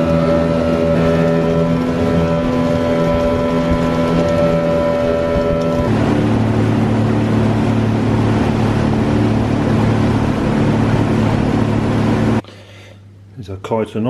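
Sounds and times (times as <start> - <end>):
rush of wind and water: 0.0 - 12.4
motorboat engine humming: 0.0 - 12.7.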